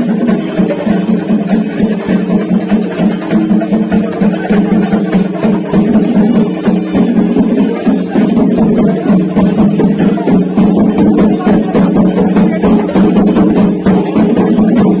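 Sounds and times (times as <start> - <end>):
fast dense drumming: 0.0 - 15.0.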